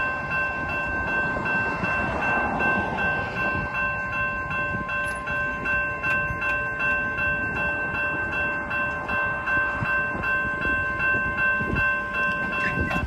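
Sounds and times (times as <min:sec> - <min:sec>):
crossing signal bell ringing: 0:00.0 - 0:13.0.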